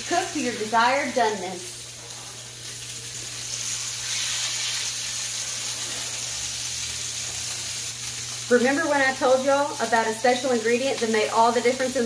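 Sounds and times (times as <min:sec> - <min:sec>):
burger patties sizzling in skillet: 0:00.0 - 0:12.0.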